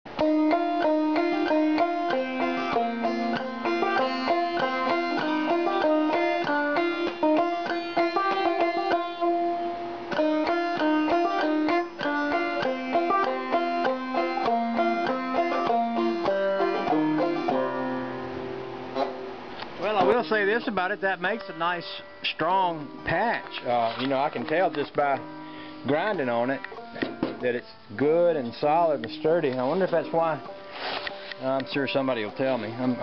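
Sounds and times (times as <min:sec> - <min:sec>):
plucked string instrument music: 0:00.1 - 0:33.0.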